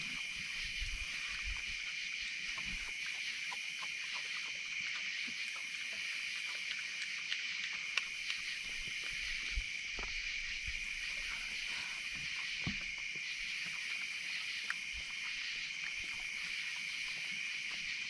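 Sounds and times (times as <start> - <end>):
animals eating with clicks and crunches: 0.0 - 18.0
crickets and katydids chirring: 0.0 - 18.0.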